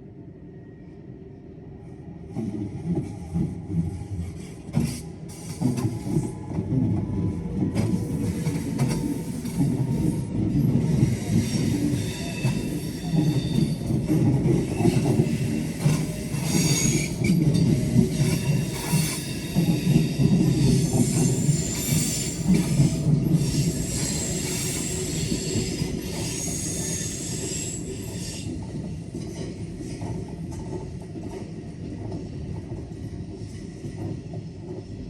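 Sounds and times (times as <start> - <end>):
low rumble of train cars: 0.0 - 35.0.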